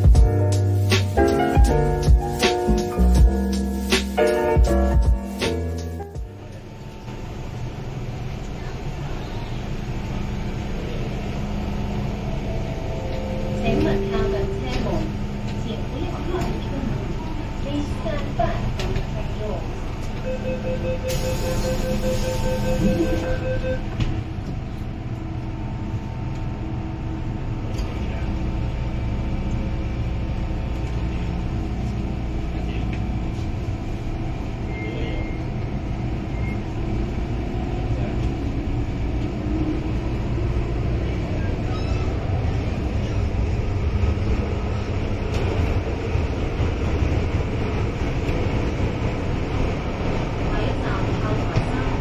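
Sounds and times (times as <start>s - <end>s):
wheels rumbling on track: 0.0s - 52.0s
train traction motors whining: 6.2s - 52.0s.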